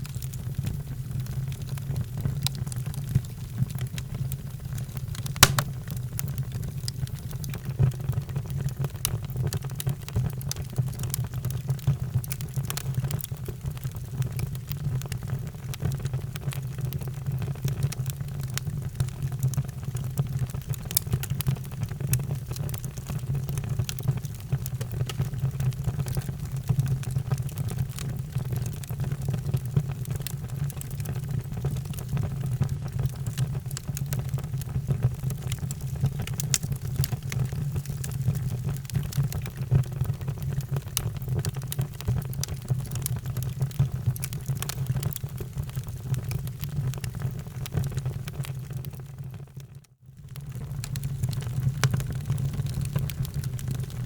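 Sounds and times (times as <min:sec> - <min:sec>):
low rumble of fire: 0:00.0 - 0:54.0
wood fire crackling and popping: 0:00.1 - 0:49.4, 0:50.3 - 0:54.0.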